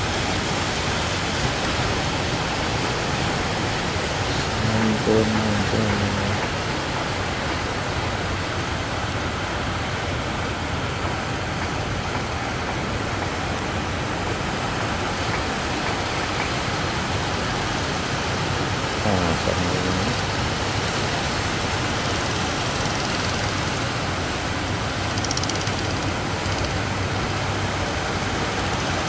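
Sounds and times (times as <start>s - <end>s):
large waves breaking: 0.0s - 29.0s.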